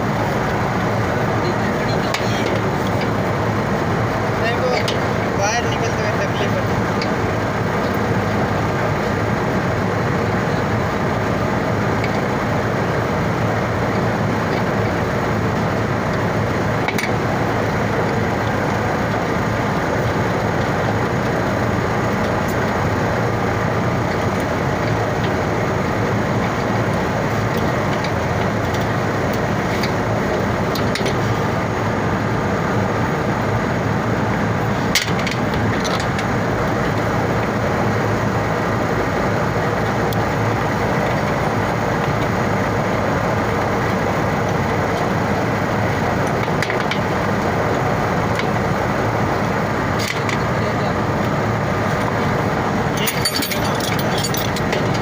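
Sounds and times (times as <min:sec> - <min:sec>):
loud machinery drone: 0:00.0 - 0:55.0.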